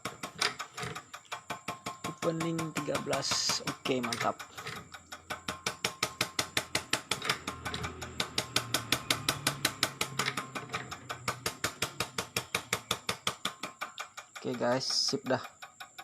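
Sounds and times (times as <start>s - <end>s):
diesel injector clicking rapidly: 0.0s - 16.0s.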